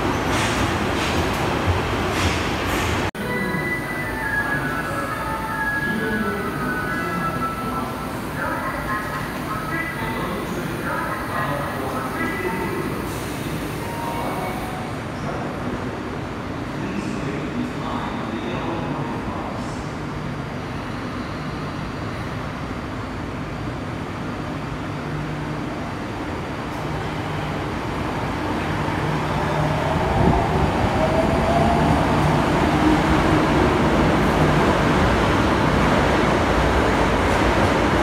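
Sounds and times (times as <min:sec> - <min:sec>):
subway train rumbling: 0:00.0 - 0:38.0.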